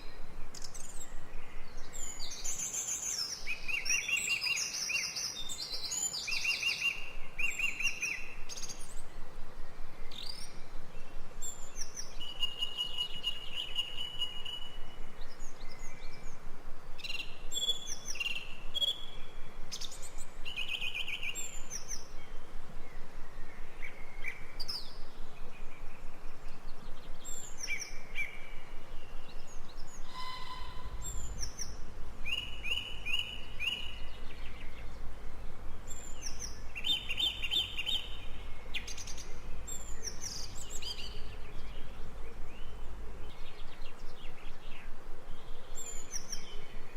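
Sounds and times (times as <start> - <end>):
birds chirping and trilling: 0.0 - 16.4, 17.0 - 46.9.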